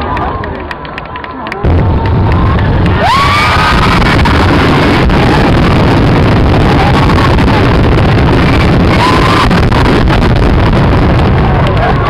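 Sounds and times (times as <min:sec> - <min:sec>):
fireworks booming: 0:01.6 - 0:12.0
sharp firework cracks: 0:01.6 - 0:12.0.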